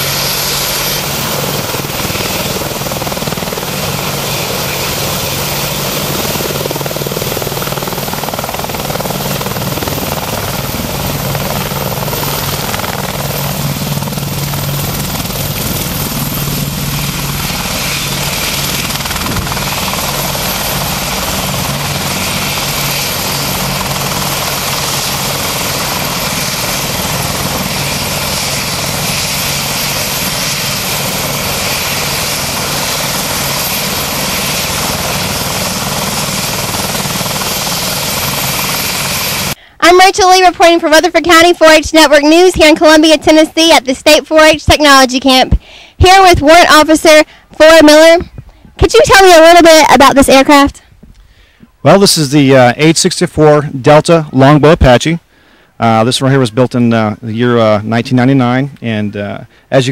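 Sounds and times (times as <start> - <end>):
helicopter engines and rotor: 0.0 - 59.9.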